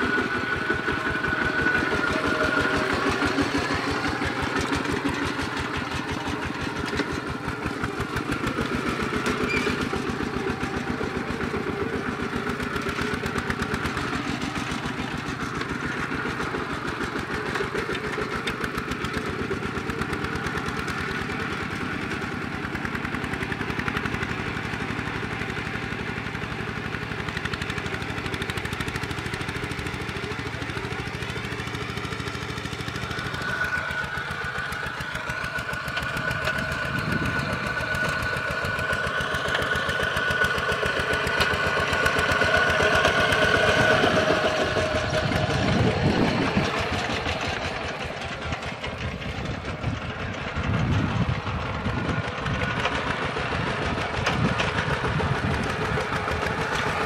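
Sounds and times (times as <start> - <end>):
walking tractor engine chugging: 0.0 - 57.0.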